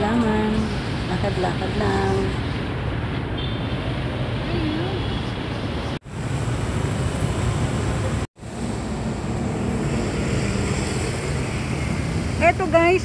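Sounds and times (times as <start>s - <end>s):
traffic and street noise: 0.0s - 13.0s.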